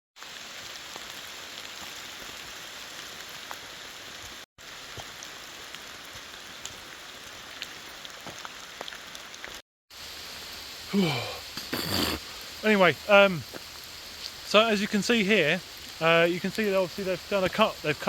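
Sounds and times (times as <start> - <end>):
steady rain falling: 0.2 - 18.0.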